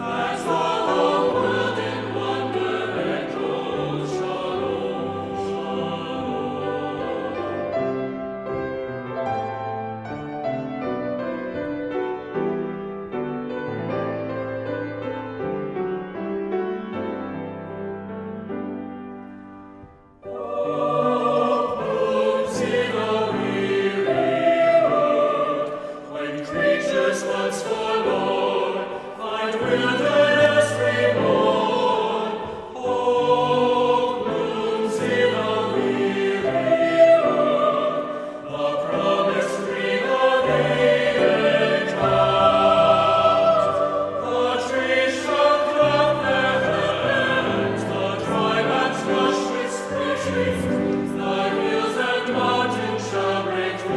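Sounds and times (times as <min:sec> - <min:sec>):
choir singing sacred music: 0:00.0 - 0:53.9.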